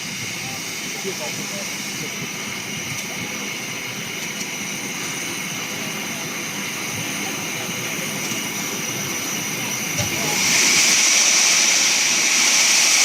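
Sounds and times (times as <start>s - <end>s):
steam hissing with high whistle: 0.0s - 13.0s.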